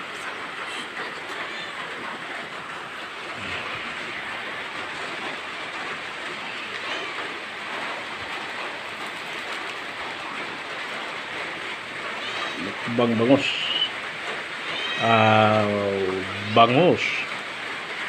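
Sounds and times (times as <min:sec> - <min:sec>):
steady rushing background noise: 0:00.0 - 0:18.0.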